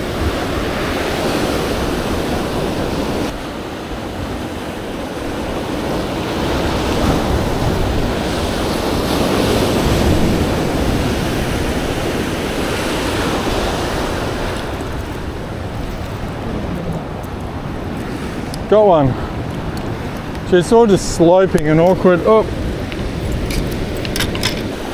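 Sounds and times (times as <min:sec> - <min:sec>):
ocean surf washing against rocks: 0:00.0 - 0:24.9
wind on microphone: 0:00.0 - 0:24.9.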